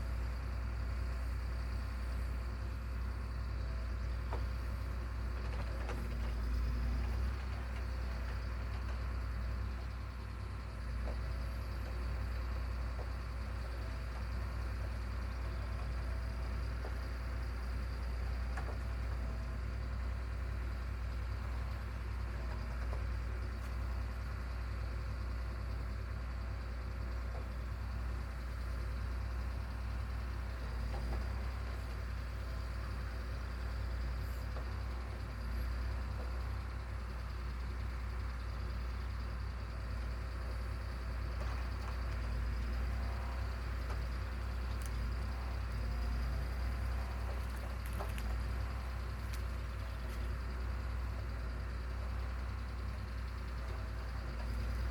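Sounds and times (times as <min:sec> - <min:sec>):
engine running steadily: 0:00.0 - 0:54.9.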